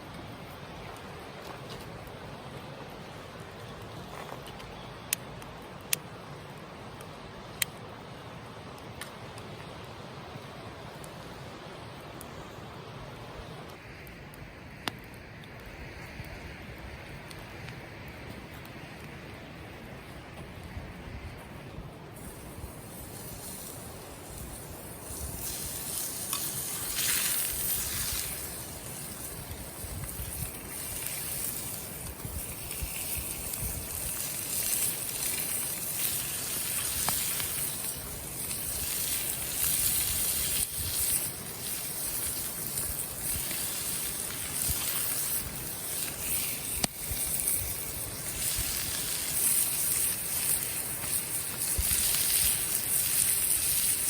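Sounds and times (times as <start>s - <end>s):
fire crackles: 0.0s - 54.0s
food sizzling over campfire: 0.0s - 54.0s.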